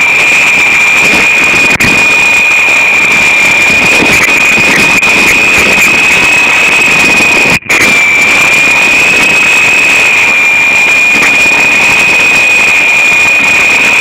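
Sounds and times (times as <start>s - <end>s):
rc helicopter motor whine: 0.0s - 14.0s.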